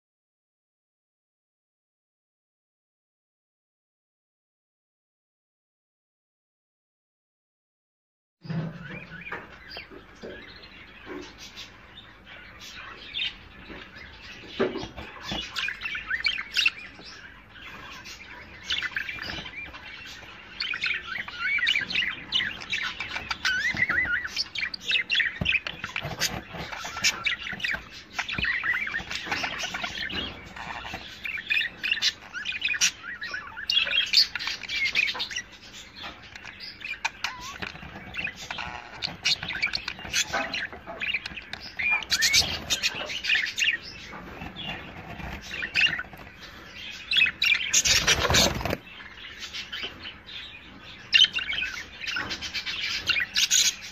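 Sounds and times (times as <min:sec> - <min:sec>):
budgerigars chattering: 0:08.5 - 0:53.9.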